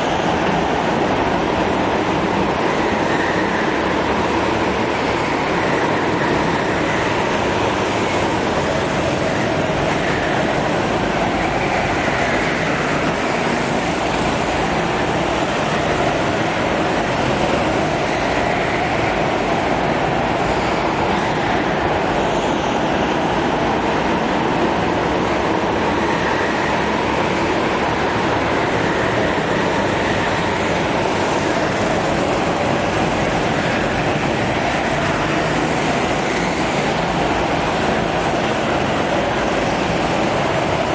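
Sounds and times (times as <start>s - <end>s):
go-kart engines droning: 0.0s - 40.9s.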